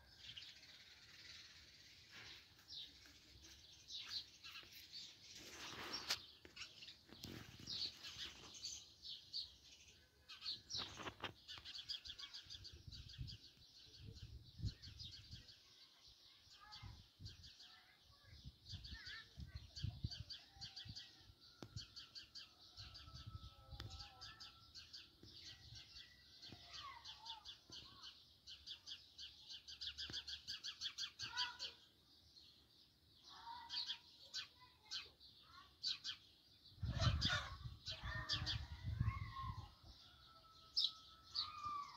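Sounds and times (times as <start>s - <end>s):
sparrows chirping: 0.0s - 41.9s.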